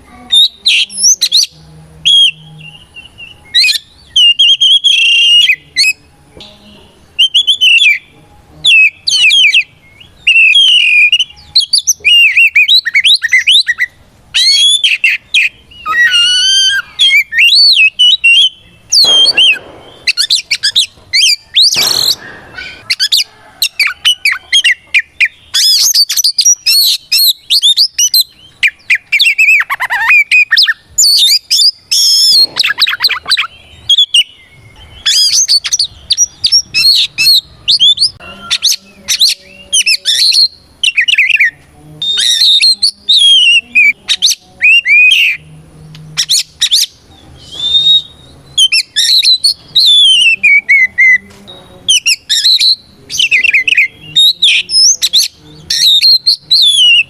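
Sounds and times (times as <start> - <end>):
magpie-robin singing: 0.0 - 57.0.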